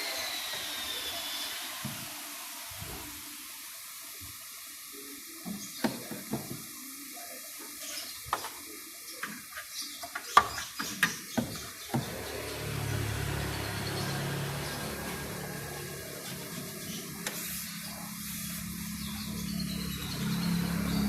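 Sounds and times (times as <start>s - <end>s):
running water hiss: 0.0s - 21.0s.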